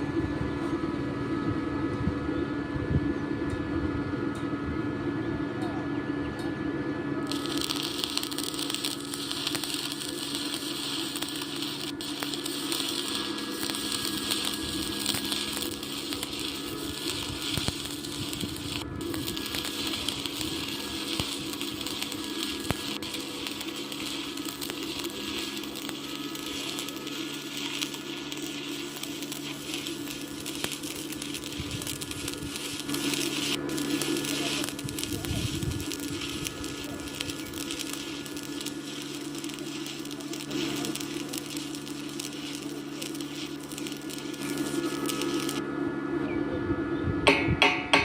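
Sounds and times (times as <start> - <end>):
low hum: 0.0 - 48.0
welding arc crackling and sizzling: 7.2 - 45.6.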